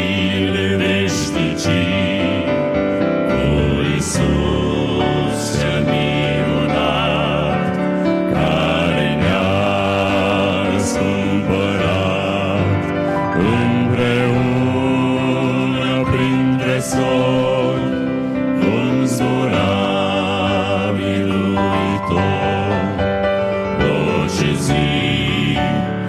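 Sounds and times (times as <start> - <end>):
keyboard accompaniment: 0.0 - 26.0
male vocal quartet singing: 0.0 - 26.0.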